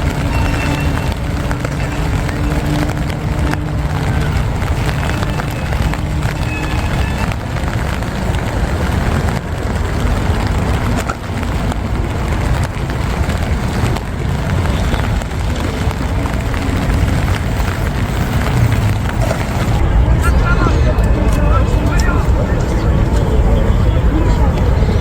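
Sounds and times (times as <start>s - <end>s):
city traffic rumble: 0.0s - 25.0s
rain on cobblestones: 0.0s - 25.0s.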